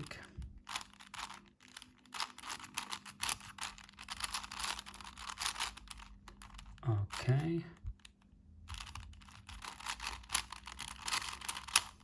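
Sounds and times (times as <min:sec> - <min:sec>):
puzzle cube clicking: 0:00.7 - 0:07.2, 0:07.8 - 0:12.0.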